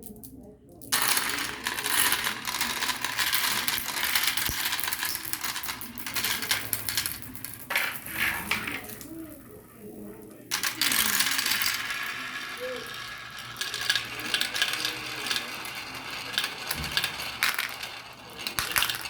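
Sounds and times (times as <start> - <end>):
marbles clattering down marble run: 0.9 - 9.6, 10.4 - 19.0.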